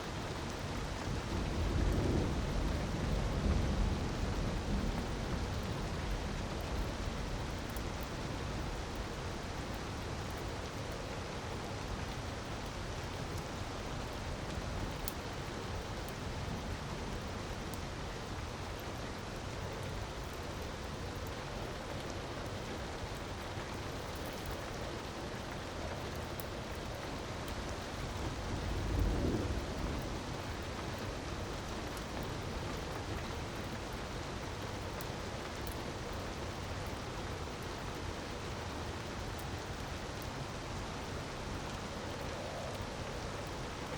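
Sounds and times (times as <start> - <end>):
wood fire crackling: 0.1 - 43.9.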